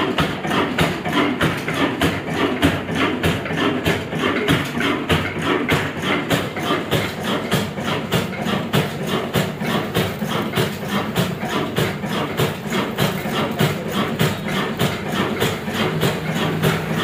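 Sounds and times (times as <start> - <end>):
diesel engine chugging: 0.0 - 17.0.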